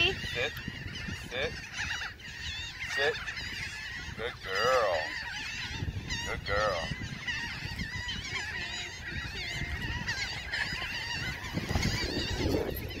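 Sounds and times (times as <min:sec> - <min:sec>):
flock of birds calling: 0:00.0 - 0:13.0
wind rumbling on microphone: 0:00.0 - 0:13.0.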